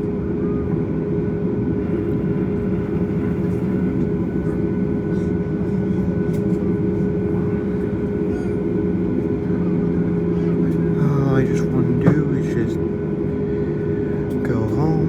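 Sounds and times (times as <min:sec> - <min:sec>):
aircraft cabin drone: 0:00.0 - 0:15.0
engine and air system hum: 0:01.4 - 0:15.0.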